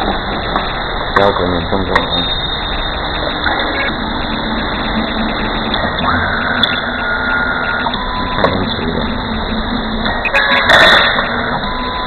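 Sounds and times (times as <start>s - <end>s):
high machine whine: 0.0s - 12.0s.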